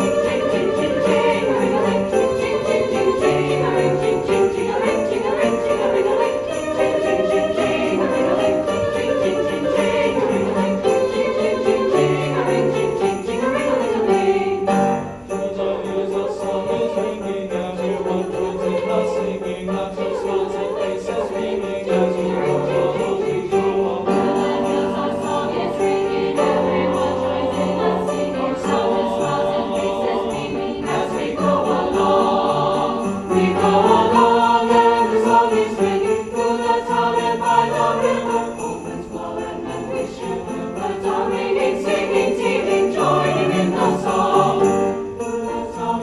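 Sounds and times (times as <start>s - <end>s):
sleigh bells jingling: 0.0s - 46.0s.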